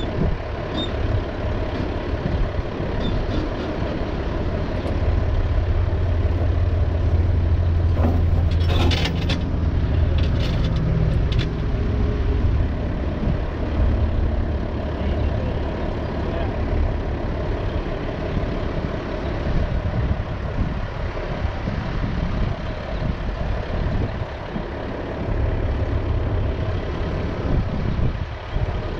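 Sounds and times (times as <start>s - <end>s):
truck engine idling: 0.0s - 28.9s.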